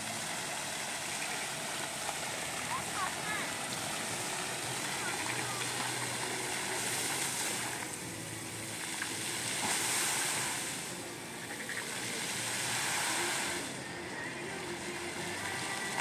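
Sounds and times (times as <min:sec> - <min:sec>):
fountain jets splashing: 0:00.0 - 0:16.0.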